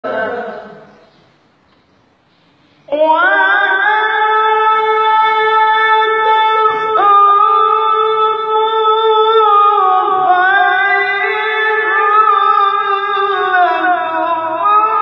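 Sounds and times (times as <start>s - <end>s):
man reciting melodically: 0.0s - 1.1s, 2.9s - 15.0s.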